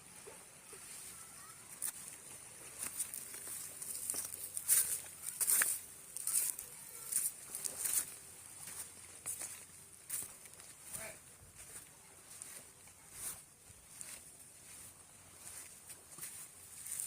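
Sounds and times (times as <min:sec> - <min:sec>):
footsteps crunching on loose ground: 0:00.8 - 0:17.0.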